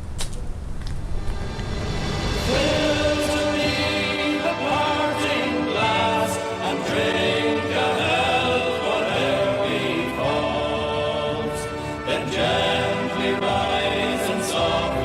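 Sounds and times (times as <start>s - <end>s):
choir singing sustained chords: 1.1s - 15.0s.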